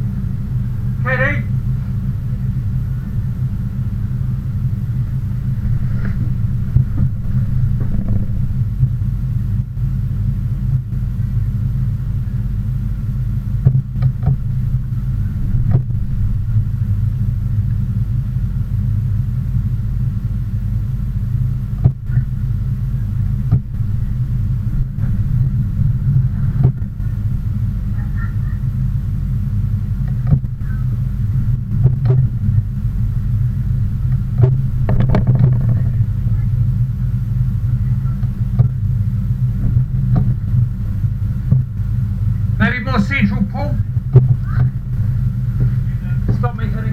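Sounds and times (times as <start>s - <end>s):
low engine rumble: 0.0s - 46.9s.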